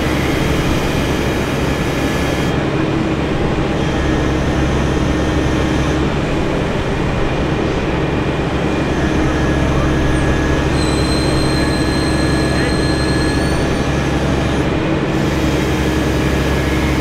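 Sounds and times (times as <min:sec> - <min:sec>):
heavy engine droning: 0:00.0 - 0:17.0.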